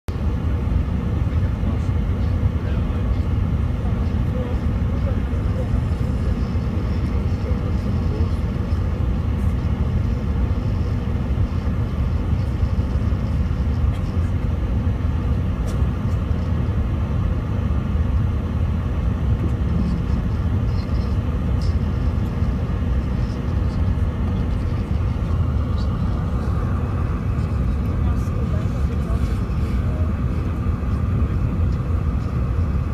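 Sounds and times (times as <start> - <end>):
airplane cabin rumble: 0.1 - 32.9.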